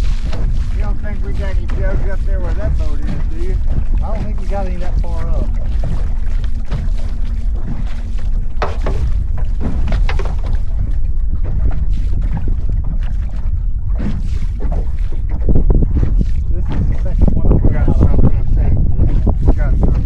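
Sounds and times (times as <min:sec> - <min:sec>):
boat engine rumble: 0:00.0 - 0:20.0
water splashes and knocks: 0:00.0 - 0:20.0
wind on microphone: 0:00.0 - 0:20.0.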